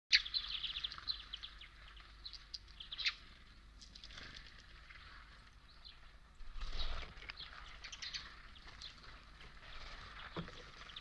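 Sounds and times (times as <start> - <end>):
small birds chirping: 0.1 - 11.0
wings fluttering: 0.1 - 11.0.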